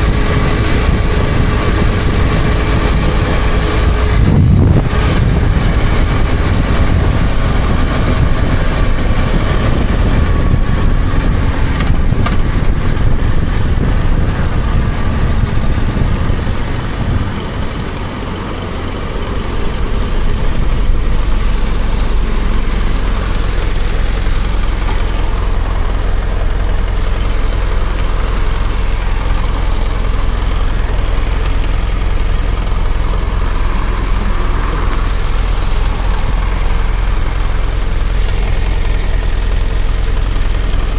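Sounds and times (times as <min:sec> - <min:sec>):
motorcycle engine: 0:00.0 - 0:40.9
rushing riding noise: 0:00.0 - 0:40.9.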